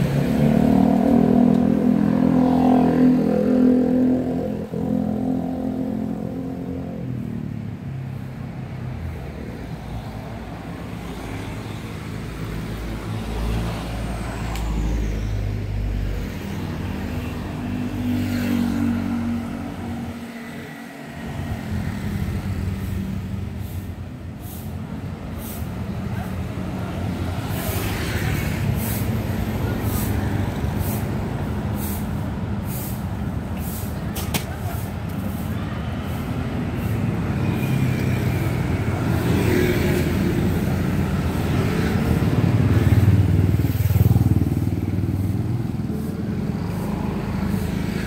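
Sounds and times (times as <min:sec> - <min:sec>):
passing motor vehicles: 0:00.0 - 0:48.0.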